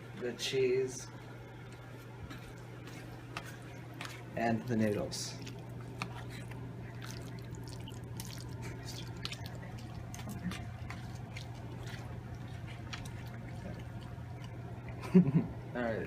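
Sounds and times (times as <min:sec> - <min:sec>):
wet squishing of food: 0:01.1 - 0:15.5.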